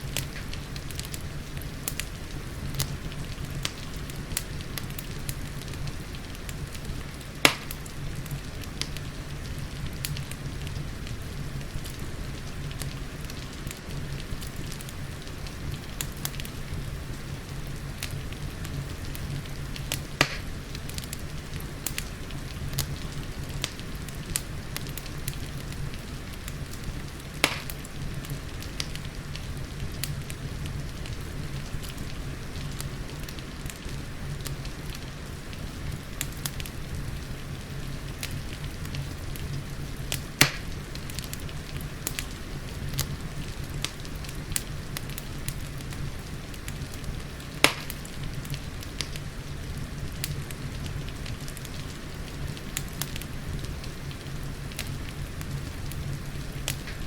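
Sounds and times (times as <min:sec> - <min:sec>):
loud fire pops: 0:00.0 - 0:57.0
steady rain: 0:00.0 - 0:57.0
wood fire crackling: 0:00.0 - 0:57.0.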